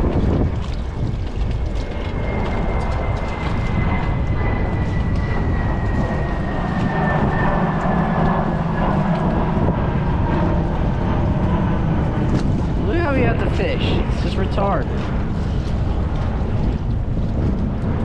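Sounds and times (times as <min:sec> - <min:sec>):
water noise: 0:00.0 - 0:18.0
wind buffeting microphone: 0:00.0 - 0:18.0.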